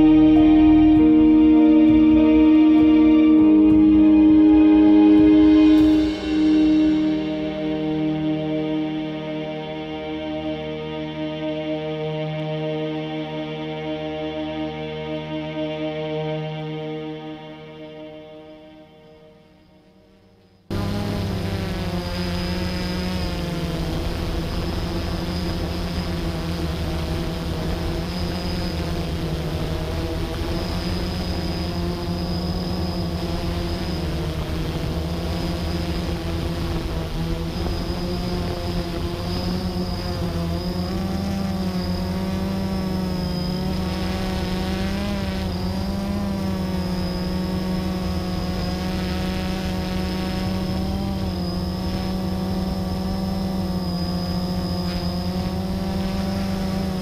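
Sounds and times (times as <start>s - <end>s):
quadcopter propellers buzzing: 0.0s - 13.8s, 20.7s - 57.0s.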